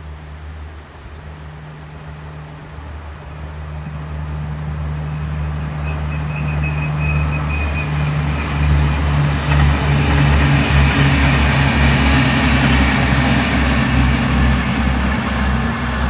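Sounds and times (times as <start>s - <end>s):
diesel railcar engines droning: 0.0s - 16.0s.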